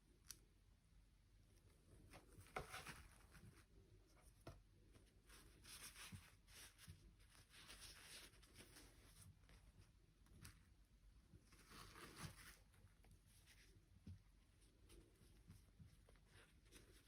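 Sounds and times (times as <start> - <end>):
soft rustling and scraping: 1.4 - 17.0.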